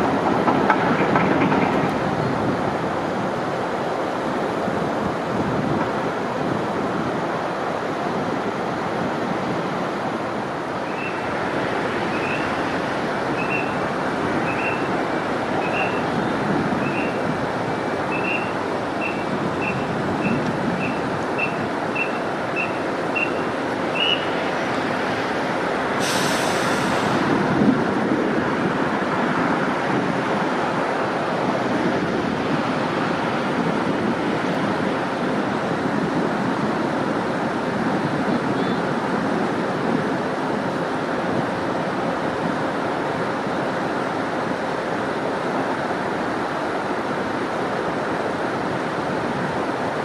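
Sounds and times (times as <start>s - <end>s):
loud rumbling noise: 0.0s - 50.0s.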